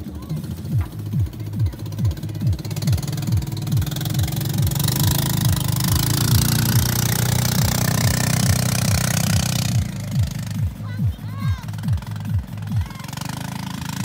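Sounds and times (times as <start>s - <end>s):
boat engine running: 0.0s - 14.0s
music with fast kick-drum beat: 0.0s - 14.0s.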